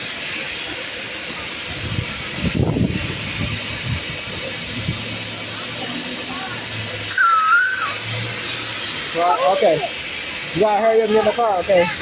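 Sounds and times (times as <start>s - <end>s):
loud hissing: 0.0s - 12.0s.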